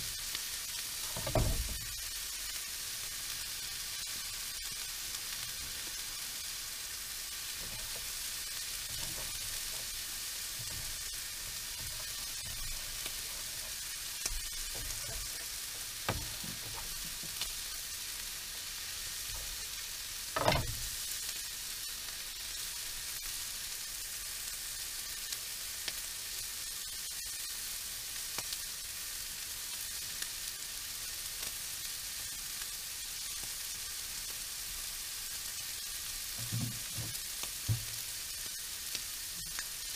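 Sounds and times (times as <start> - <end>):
meat sizzling in a frying pan: 0.0 - 39.9.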